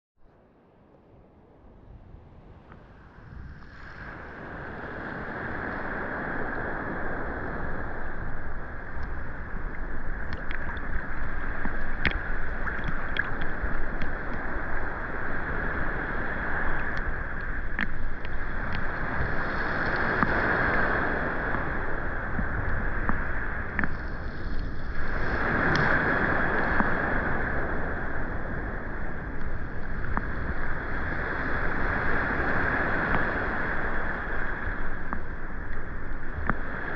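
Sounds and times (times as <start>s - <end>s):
rain hissing on the sea: 2.9s - 36.9s.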